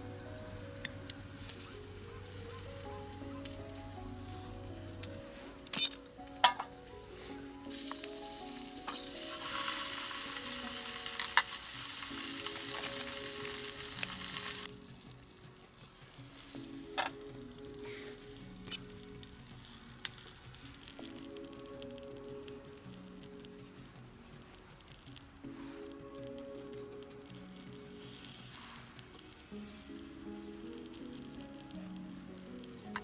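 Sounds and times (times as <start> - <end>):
food sizzling in a pan: 0.0 - 23.7, 24.3 - 33.0
soft background music: 0.0 - 33.0.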